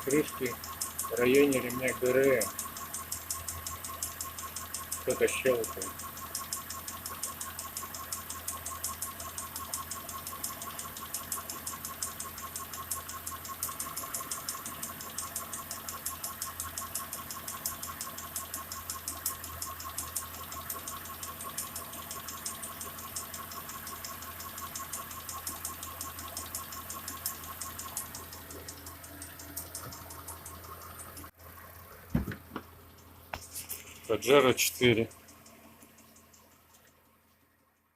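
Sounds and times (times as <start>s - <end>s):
engine idling with fast ticking: 0.0s - 37.9s.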